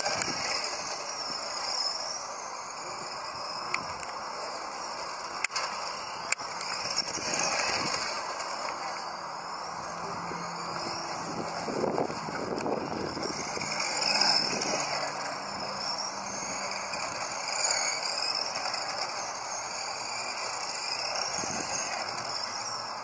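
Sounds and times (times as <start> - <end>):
model car motors whining: 0.0 - 23.0.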